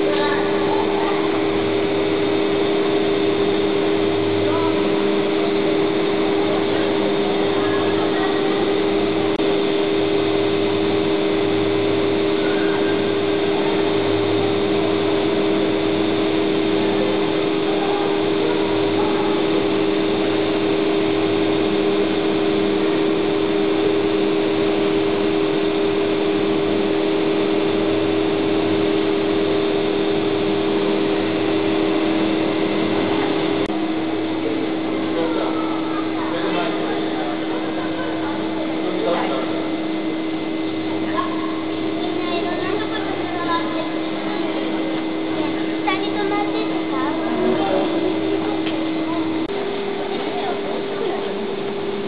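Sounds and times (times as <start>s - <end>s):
low throb: 0.0s - 52.0s
mechanical hum: 0.0s - 52.0s
two steady tones: 0.0s - 52.0s.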